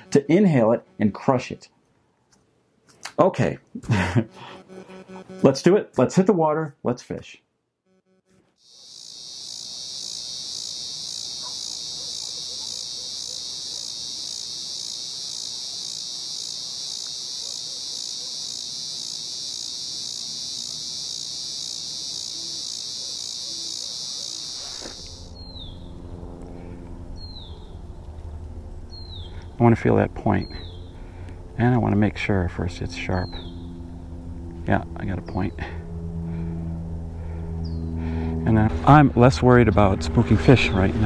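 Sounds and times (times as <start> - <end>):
insects buzzing: 0.0 - 1.7, 3.8 - 5.7, 7.9 - 38.7.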